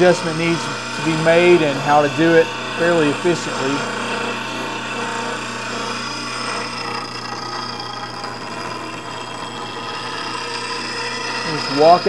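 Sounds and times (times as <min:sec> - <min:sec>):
bench grinder motor hum: 0:00.0 - 0:12.0.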